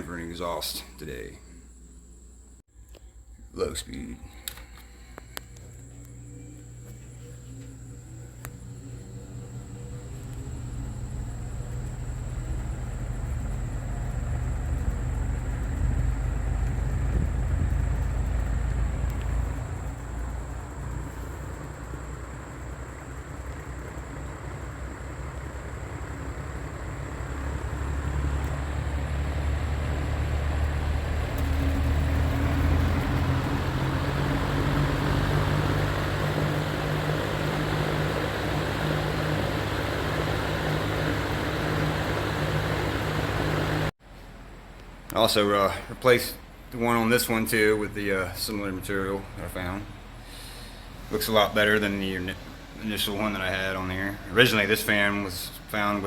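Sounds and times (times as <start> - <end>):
box fan humming with airy rush: 0.0 - 56.0.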